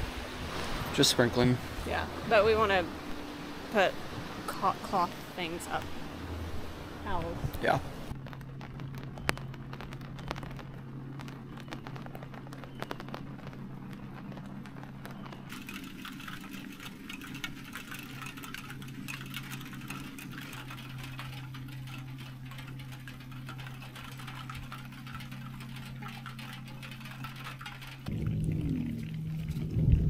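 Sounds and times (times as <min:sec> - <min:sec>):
light rain pattering: 0:00.0 - 0:30.0
steady low hum: 0:00.0 - 0:30.0.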